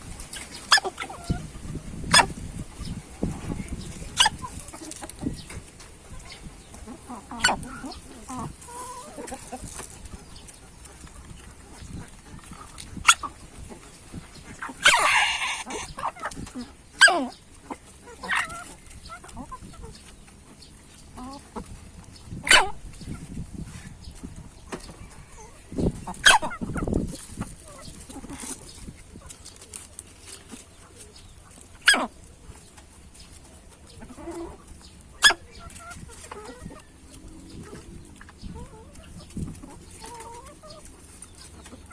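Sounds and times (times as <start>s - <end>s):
hen clucking softly: 0.2s - 41.9s.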